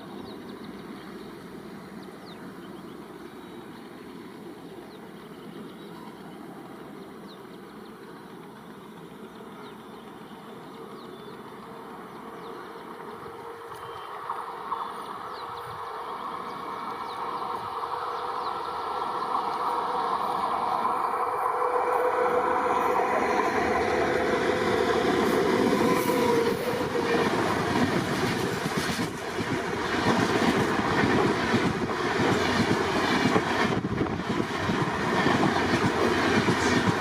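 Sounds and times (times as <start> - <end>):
train running noise: 0.0 - 37.0.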